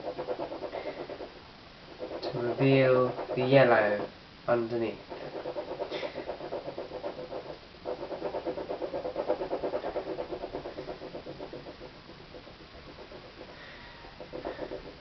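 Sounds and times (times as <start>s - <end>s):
scratching on canvas: 0.0s - 15.0s.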